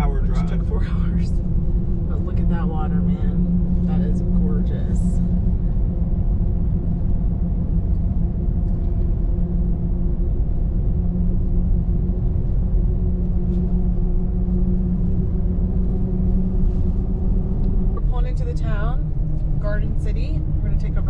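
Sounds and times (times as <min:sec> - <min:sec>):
road and engine drone in cab: 0:00.0 - 0:21.0.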